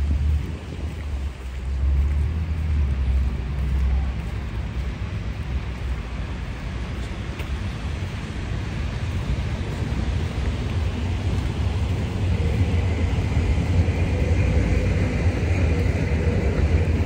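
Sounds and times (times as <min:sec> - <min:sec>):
road traffic noise: 0:00.0 - 0:17.0
vehicle deep rumble: 0:00.0 - 0:17.0.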